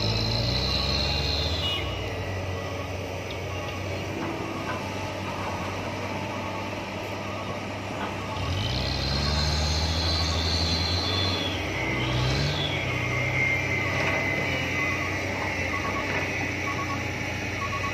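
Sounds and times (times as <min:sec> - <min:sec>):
engine whine: 0:00.0 - 0:17.9
heavy diesel engine revving: 0:00.0 - 0:17.9.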